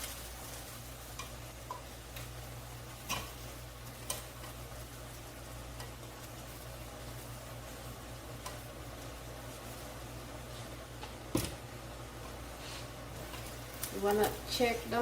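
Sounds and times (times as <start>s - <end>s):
flatbread sizzling in pan: 0.0s - 15.0s
low steady hum: 0.0s - 15.0s.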